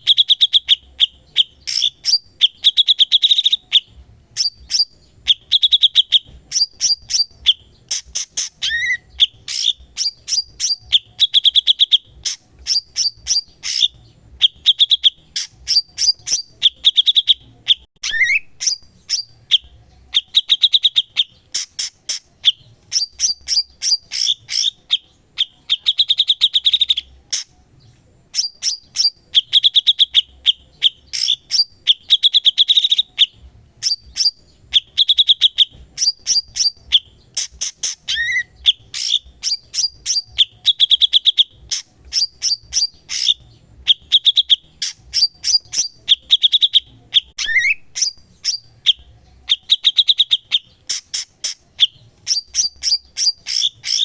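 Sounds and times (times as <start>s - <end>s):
caged songbird trilling: 0.0s - 54.0s.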